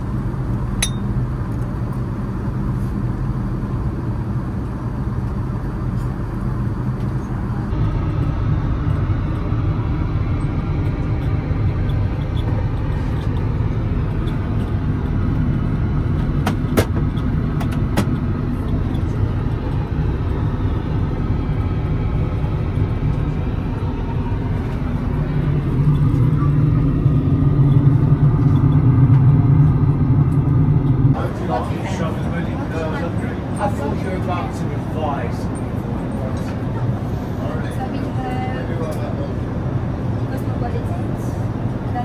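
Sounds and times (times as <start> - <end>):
airplane cabin rumble: 0.0 - 42.0.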